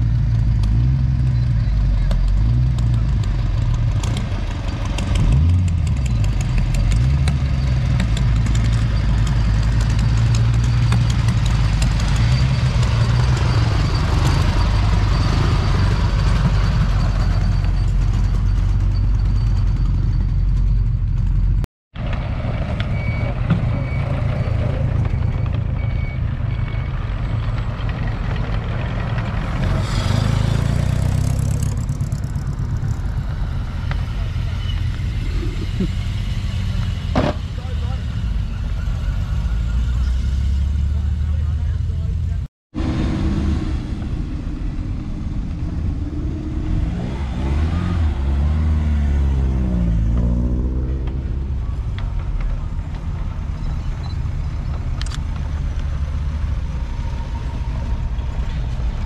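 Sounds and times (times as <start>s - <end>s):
car engines rumbling: 0.0s - 59.0s.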